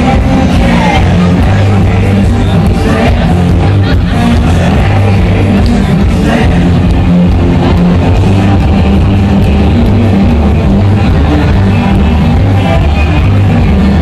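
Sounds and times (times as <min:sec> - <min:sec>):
guitar and singing with heavy bass: 0:00.0 - 0:14.0.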